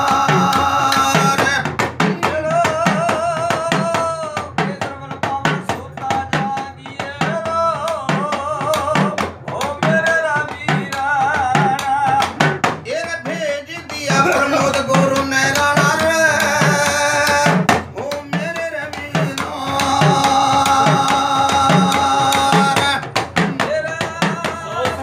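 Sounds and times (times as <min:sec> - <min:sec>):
double-headed drum struck with stick: 0:00.0 - 0:25.0
men singing devotional melody: 0:00.0 - 0:25.0
small hand drum beat: 0:00.0 - 0:25.0.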